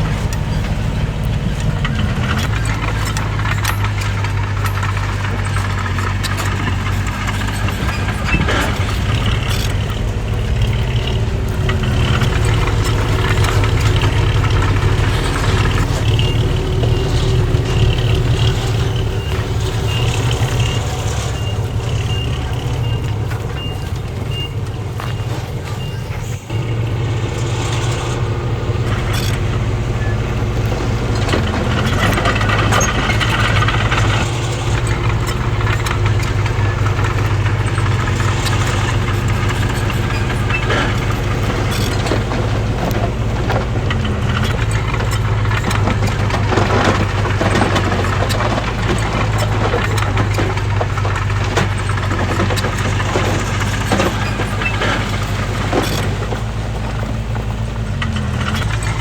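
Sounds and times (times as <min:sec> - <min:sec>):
diesel machinery engine hum: 0:00.0 - 0:59.0
metal clanks and knocks: 0:00.0 - 0:59.0.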